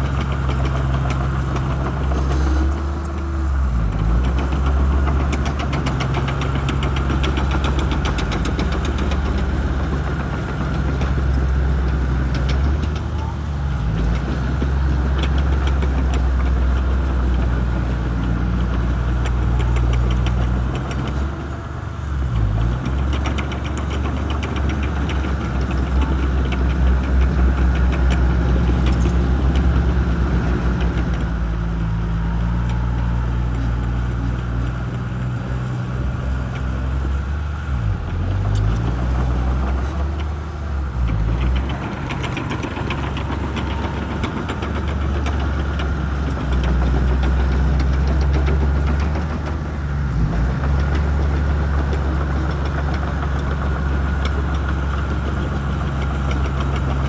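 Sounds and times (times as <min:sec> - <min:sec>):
bulldozer diesel engine under load: 0:00.0 - 0:57.0
crawler tracks clanking: 0:00.0 - 0:57.0.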